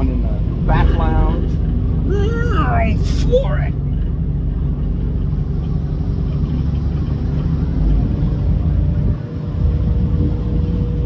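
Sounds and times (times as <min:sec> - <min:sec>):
ferry engine rumbling: 0:00.0 - 0:11.0.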